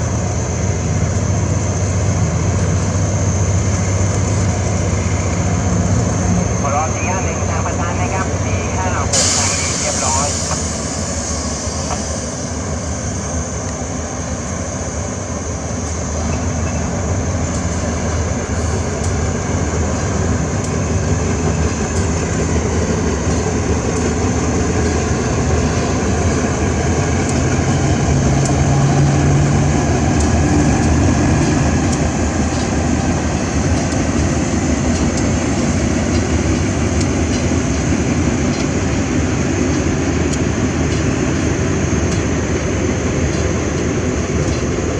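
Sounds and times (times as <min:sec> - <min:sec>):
train running: 0:00.0 - 0:44.9.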